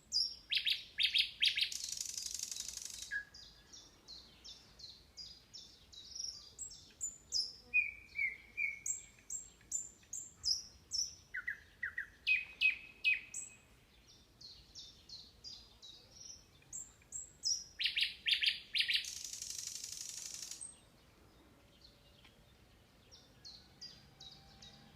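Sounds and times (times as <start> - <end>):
songbirds singing: 0.0 - 24.9.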